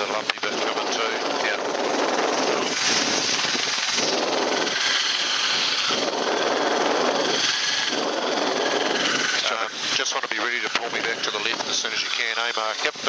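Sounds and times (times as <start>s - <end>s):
helicopter rotor and engine noise: 0.0s - 13.0s
thin high whine: 0.0s - 13.0s.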